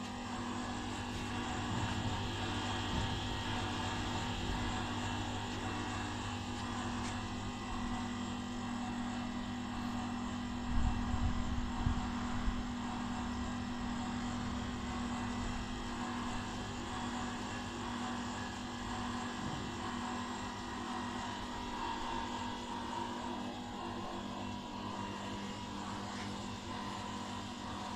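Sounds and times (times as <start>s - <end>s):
machine electric hum and whir: 0.0s - 27.9s.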